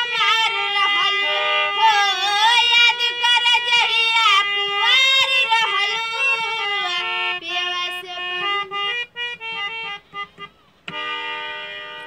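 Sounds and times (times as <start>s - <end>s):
harmonium melody: 0.0s - 12.0s.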